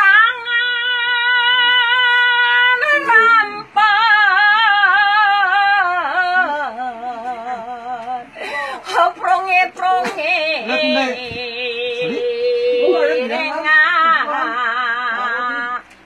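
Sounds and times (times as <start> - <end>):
elderly woman singing: 0.0 - 16.0.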